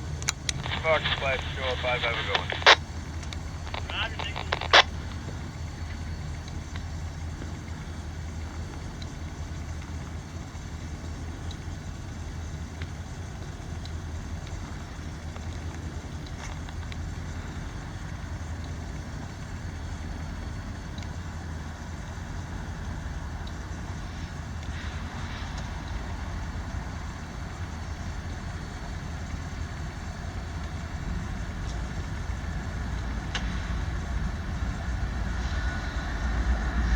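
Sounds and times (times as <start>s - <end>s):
locomotive engines rumbling: 0.0s - 20.4s, 21.5s - 36.9s.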